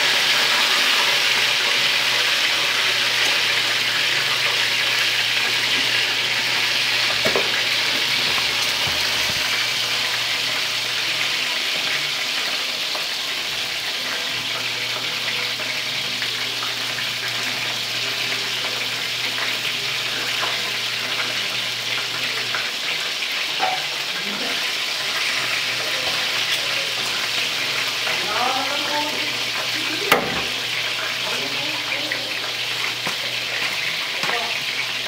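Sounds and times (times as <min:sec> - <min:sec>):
chicken frying in oil: 0:00.0 - 0:35.0.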